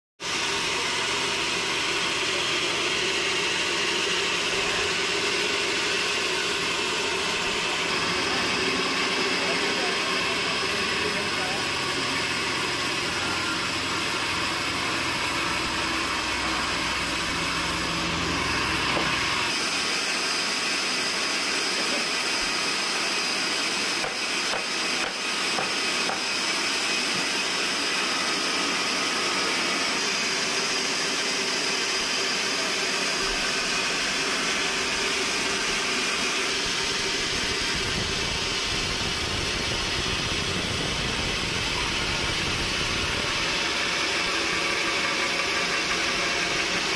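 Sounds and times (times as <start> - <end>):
band saw cutting log: 0.2 - 46.9.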